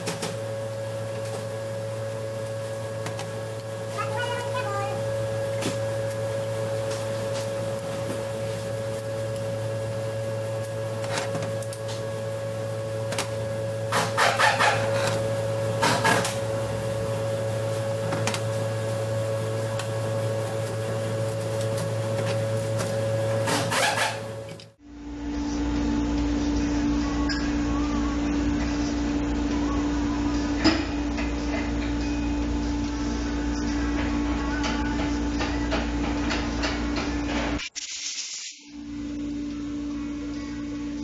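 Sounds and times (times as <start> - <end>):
steady machine hum: 0.0 - 37.7, 38.7 - 41.0.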